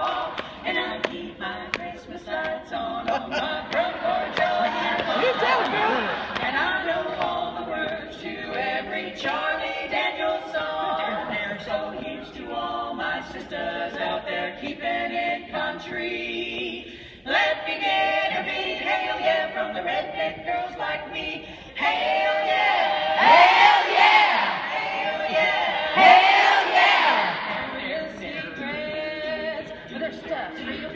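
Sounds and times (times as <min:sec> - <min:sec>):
women singing a cappella harmony: 0:00.0 - 0:30.9.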